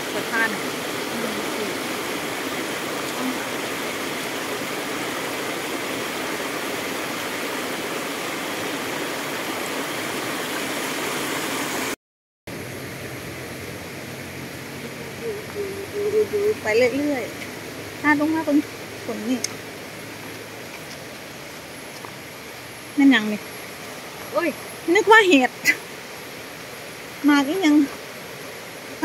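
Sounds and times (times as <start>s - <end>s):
stream water over rocks: 0.0s - 29.0s.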